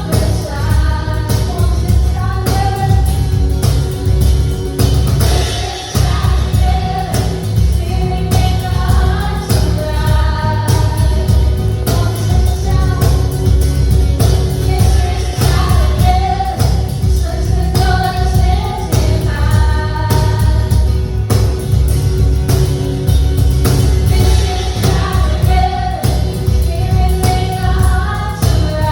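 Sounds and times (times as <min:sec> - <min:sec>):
voices singing in harmony: 0:00.0 - 0:03.8, 0:05.2 - 0:21.6, 0:24.0 - 0:28.9
band with heavy bass and drums: 0:00.0 - 0:28.9.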